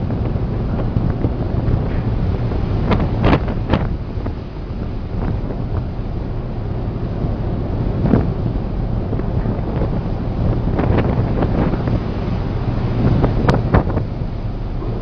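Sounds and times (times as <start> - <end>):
rough sea rumble: 0.0 - 15.0
wind buffeting microphone: 0.0 - 15.0.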